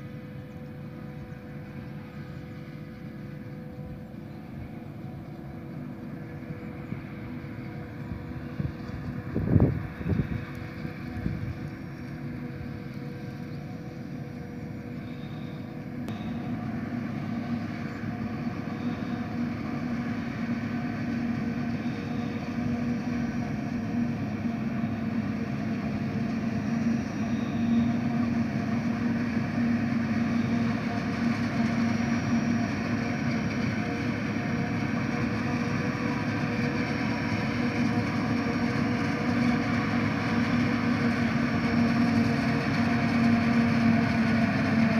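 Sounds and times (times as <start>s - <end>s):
diesel engines droning: 0.0s - 44.9s.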